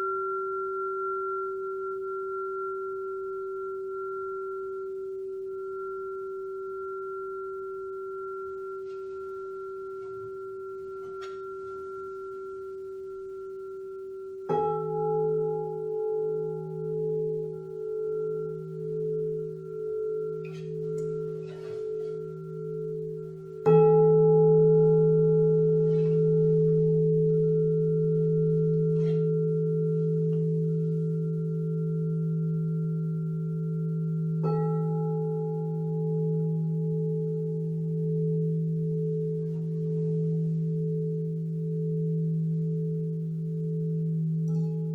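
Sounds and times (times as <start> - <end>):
singing bowl ringing: 0.0 - 44.9
singing bowl strike: 0.0 - 44.9.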